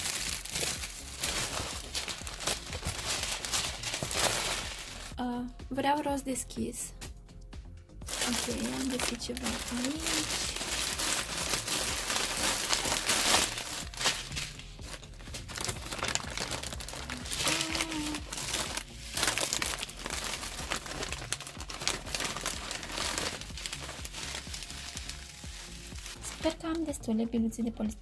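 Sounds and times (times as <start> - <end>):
plastic bags crinkling: 0.0 - 5.2, 8.0 - 26.8.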